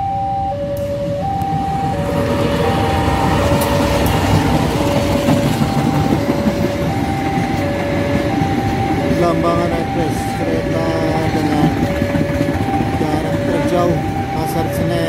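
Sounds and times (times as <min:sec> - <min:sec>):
level crossing warning alarm: 0:00.0 - 0:15.0
train wheels rumbling over rails: 0:00.8 - 0:15.0.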